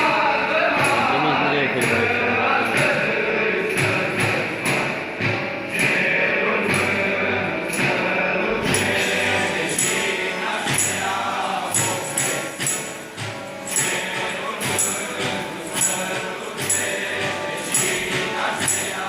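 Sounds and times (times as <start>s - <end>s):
group singing carols: 0.0s - 19.0s
rhythmic jingling: 0.0s - 19.0s.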